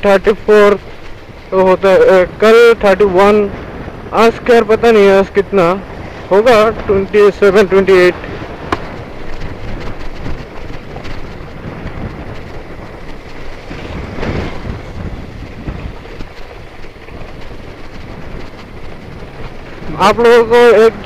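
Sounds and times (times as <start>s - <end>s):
motorcycle engine rumble: 0.0s - 21.0s
wind buffeting microphone: 0.0s - 21.0s.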